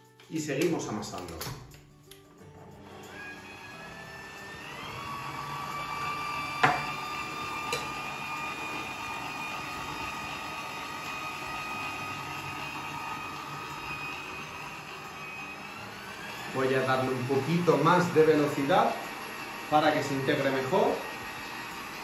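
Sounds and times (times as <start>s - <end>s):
stand mixer motor whine: 2.8s - 22.0s.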